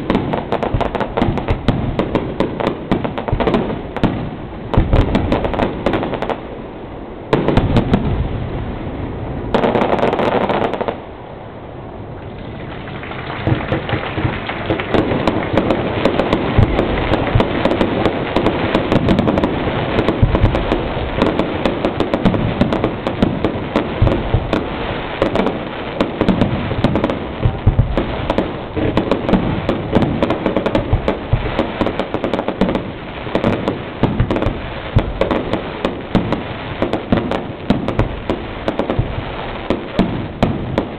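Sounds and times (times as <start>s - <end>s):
crackle of firework pops: 0.0s - 6.4s, 7.3s - 8.2s, 12.2s - 40.9s
firework bangs: 0.0s - 6.7s, 7.3s - 11.1s, 12.1s - 40.9s.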